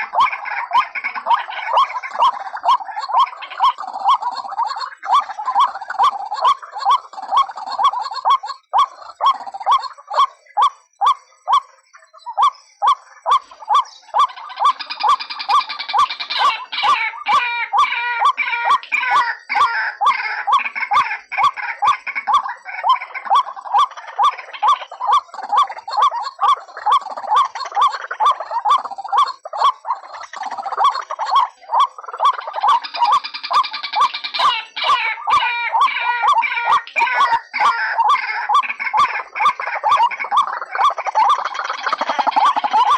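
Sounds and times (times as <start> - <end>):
high-pitched bird chattering: 0.0 - 42.9
waterhen repeated call notes: 0.0 - 42.9.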